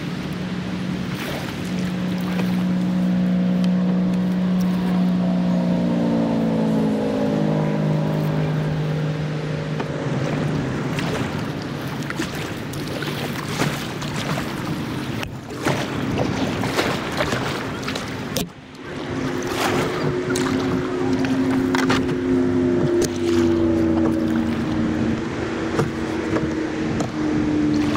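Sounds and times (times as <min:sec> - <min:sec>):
kayak paddle splashing: 0:00.0 - 0:27.9
vehicle engine hum: 0:00.0 - 0:27.9.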